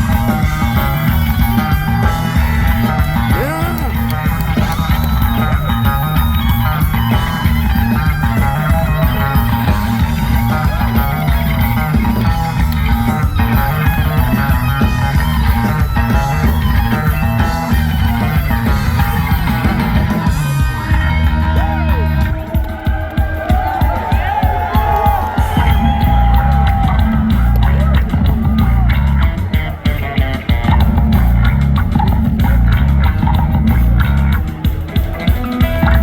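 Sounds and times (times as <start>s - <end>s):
bass: 0.0s - 36.0s
distorted electric guitar: 0.0s - 36.0s
drums: 0.0s - 36.0s.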